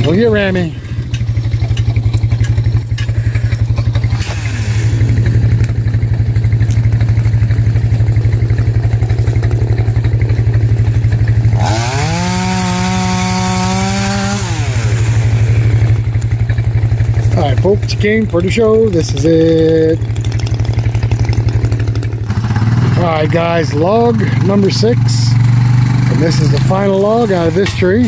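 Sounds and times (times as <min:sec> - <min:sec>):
atv engine running: 0:00.0 - 0:28.0.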